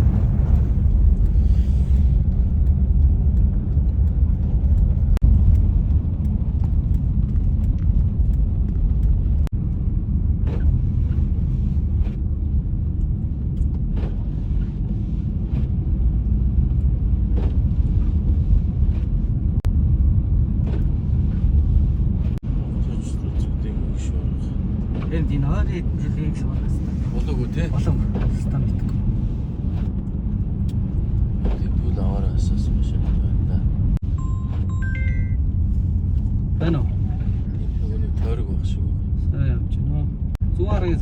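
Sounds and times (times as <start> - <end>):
vehicle driving rumble: 0.0 - 41.0.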